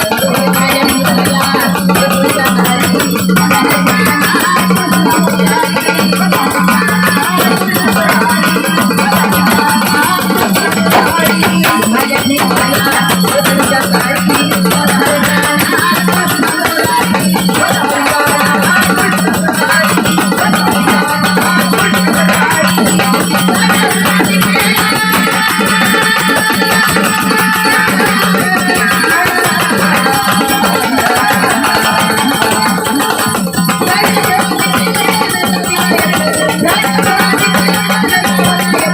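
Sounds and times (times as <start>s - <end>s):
hand drums rhythm: 0.0s - 38.9s.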